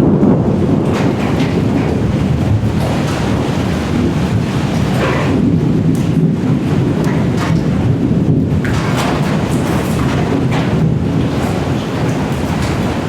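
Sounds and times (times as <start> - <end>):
rain: 0.0 - 13.0
rolling thunder: 0.0 - 13.0.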